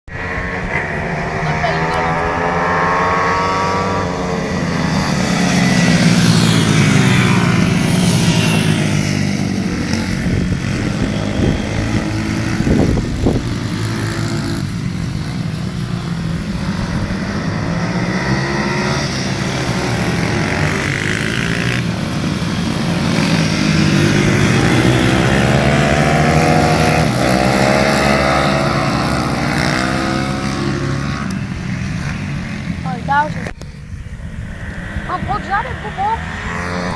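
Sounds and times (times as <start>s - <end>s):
pit bike engines revving: 0.1s - 36.9s.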